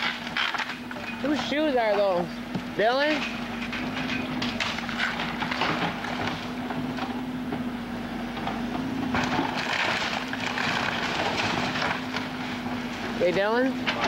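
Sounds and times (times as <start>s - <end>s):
wood splintering and crunching: 0.0s - 2.3s, 3.0s - 7.1s, 8.8s - 14.0s
steady low machine hum: 0.0s - 14.0s.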